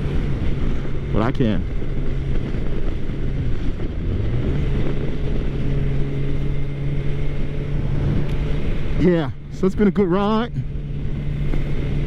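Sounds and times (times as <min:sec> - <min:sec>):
motorcycle engine cruising: 0:00.0 - 0:12.0
wind noise on microphone: 0:00.0 - 0:12.0.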